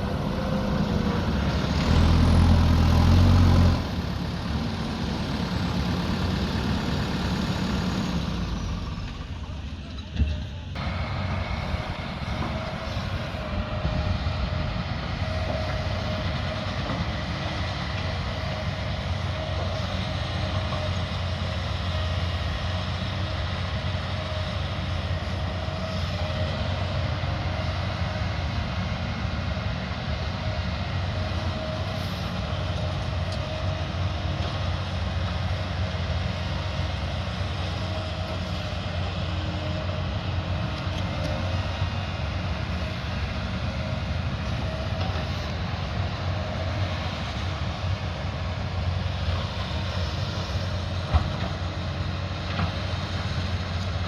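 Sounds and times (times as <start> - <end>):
diesel engine low rumble: 0.0 - 54.0.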